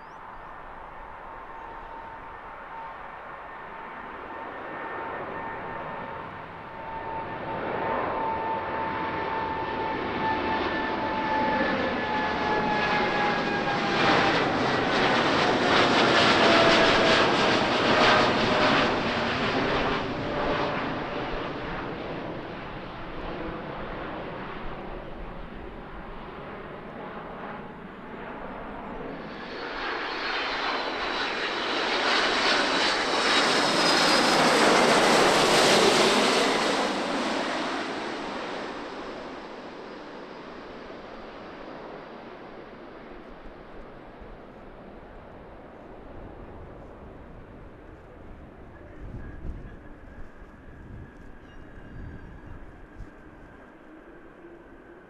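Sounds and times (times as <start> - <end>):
airliner engines whining: 0.0 - 55.0.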